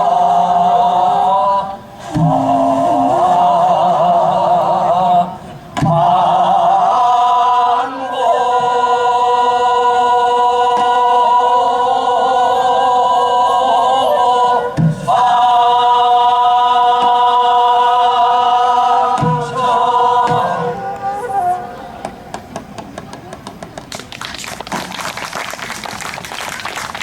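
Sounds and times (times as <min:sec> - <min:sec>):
chorus singing long held notes: 0:00.0 - 0:22.6.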